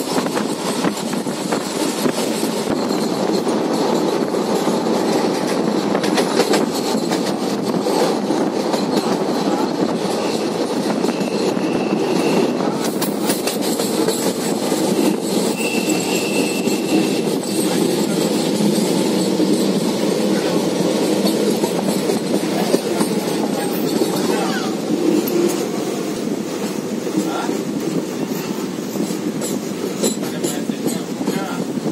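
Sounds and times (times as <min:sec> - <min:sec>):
train wheels rumbling on track: 0:00.0 - 0:31.9.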